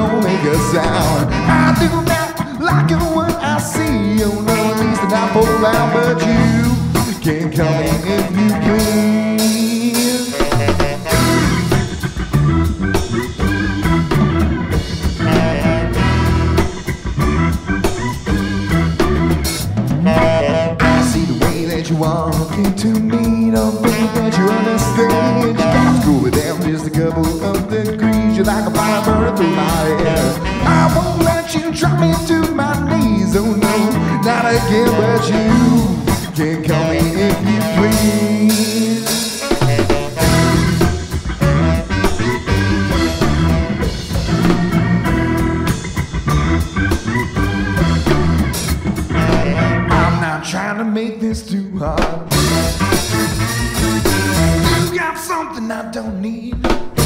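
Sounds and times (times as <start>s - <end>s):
live band playing ska groove: 0.0s - 57.0s.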